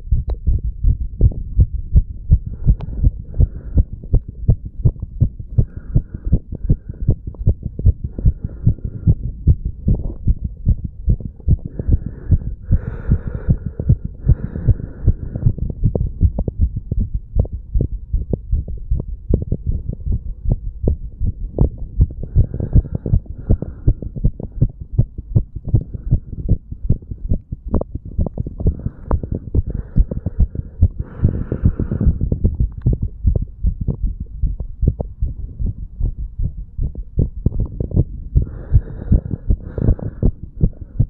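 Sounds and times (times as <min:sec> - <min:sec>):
heartbeat thumps: 0:00.0 - 0:41.0.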